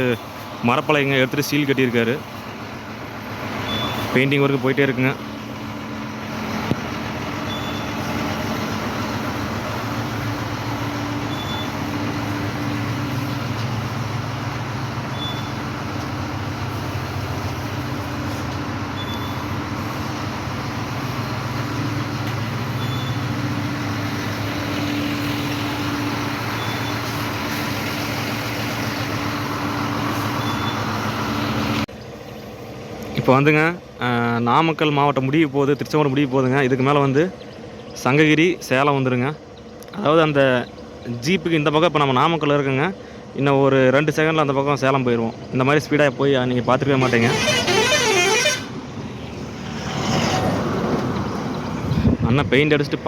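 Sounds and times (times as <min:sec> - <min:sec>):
vehicle engine running: 0:00.0 - 0:34.0, 0:44.5 - 0:53.0
road noise: 0:00.0 - 0:53.0.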